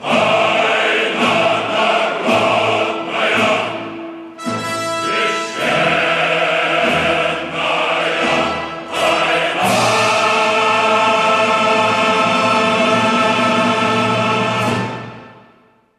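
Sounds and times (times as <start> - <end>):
choir singing sustained chords: 0.0 - 15.9.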